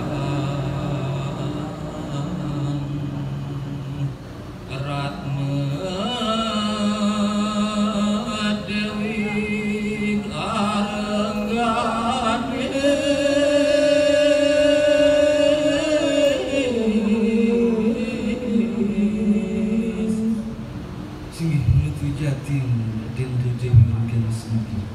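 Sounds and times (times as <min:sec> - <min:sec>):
man chanting with vibrato: 0:00.0 - 0:24.9.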